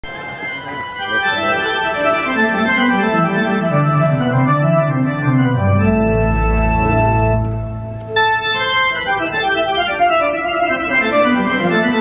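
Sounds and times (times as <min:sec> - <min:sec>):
organ chords: 0:00.0 - 0:12.0
keyboard bass line: 0:00.5 - 0:12.0.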